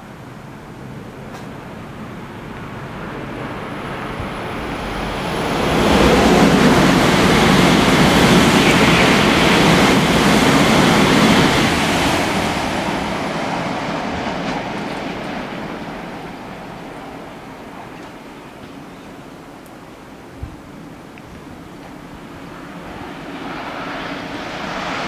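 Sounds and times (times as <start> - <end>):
bullet train rushing past: 0.0 - 25.0.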